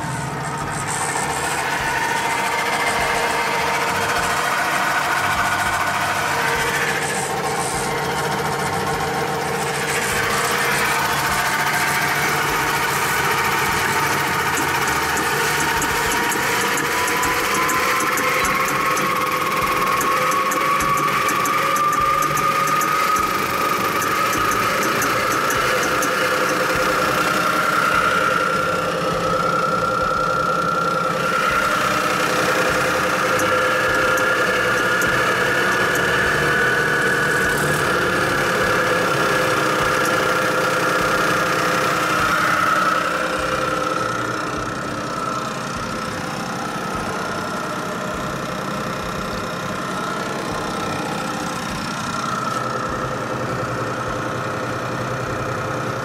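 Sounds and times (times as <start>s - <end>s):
bead mill humming and whining: 0.0s - 56.0s.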